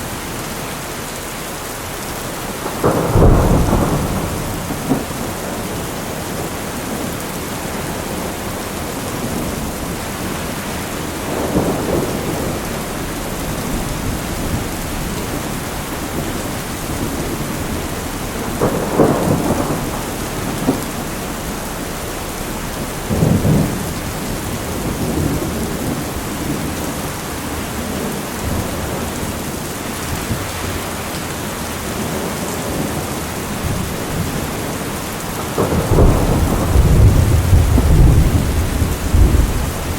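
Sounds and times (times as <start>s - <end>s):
steady rain falling: 0.0s - 39.9s
low rolls of thunder: 2.4s - 39.9s.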